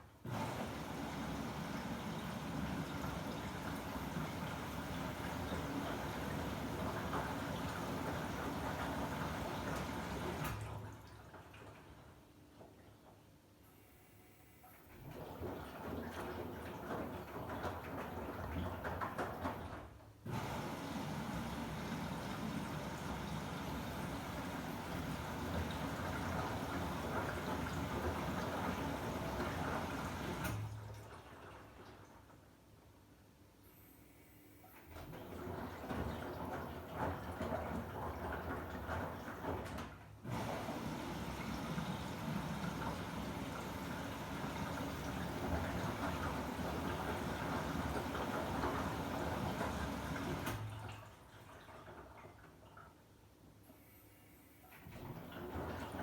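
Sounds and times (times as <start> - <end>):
water rushing into washing machine: 0.0 - 13.0, 14.9 - 32.5, 34.7 - 53.3, 54.7 - 56.0.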